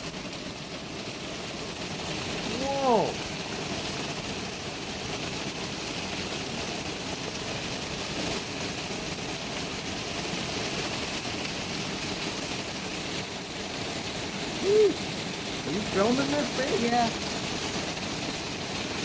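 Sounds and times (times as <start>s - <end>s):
hailstones pelting down: 0.0s - 19.0s.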